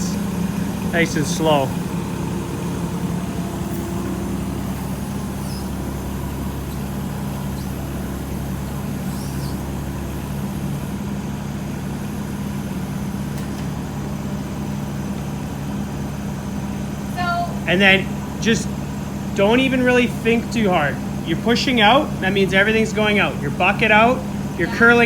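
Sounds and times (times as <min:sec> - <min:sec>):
excavator engine droning: 0:00.0 - 0:25.0.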